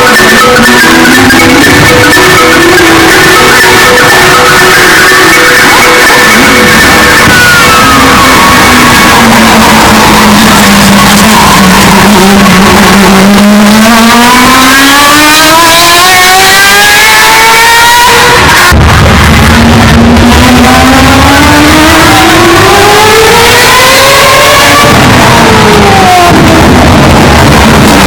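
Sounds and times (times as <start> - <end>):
distorted race car engine: 0.0 - 28.0.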